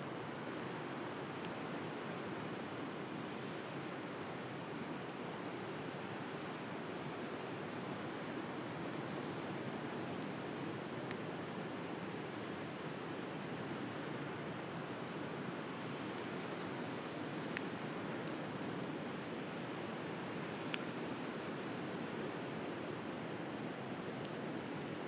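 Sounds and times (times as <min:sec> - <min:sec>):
wood fire crackling: 0:00.1 - 0:25.0.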